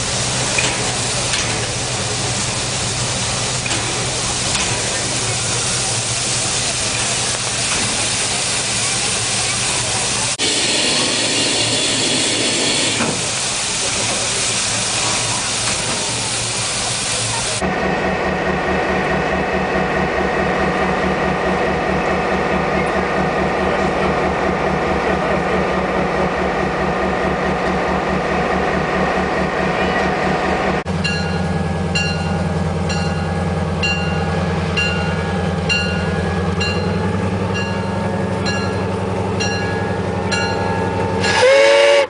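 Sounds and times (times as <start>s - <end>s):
locomotive running low hum: 0.0s - 42.0s.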